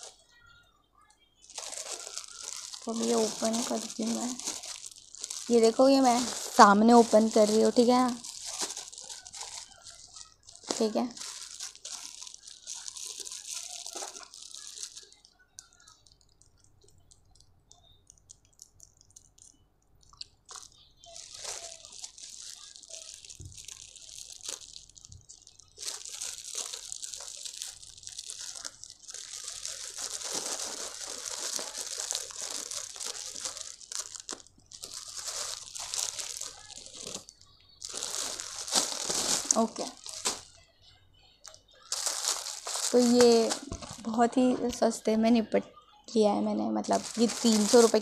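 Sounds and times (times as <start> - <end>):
plastic packaging crinkling: 0.0 - 0.3, 1.4 - 40.6, 41.4 - 45.0, 46.2 - 48.0.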